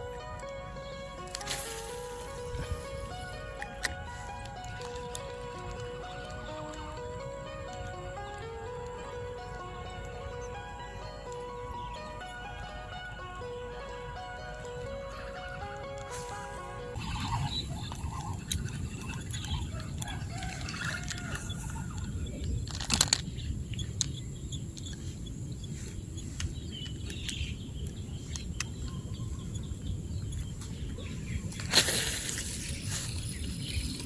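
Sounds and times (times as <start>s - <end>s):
chickens calling: 0.0s - 34.0s.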